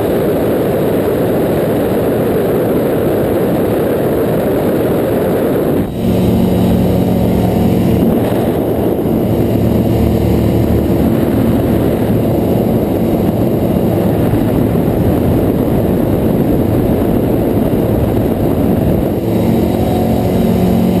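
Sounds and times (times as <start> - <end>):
propeller engine drone: 0.0 - 21.0
wind rush: 0.0 - 21.0.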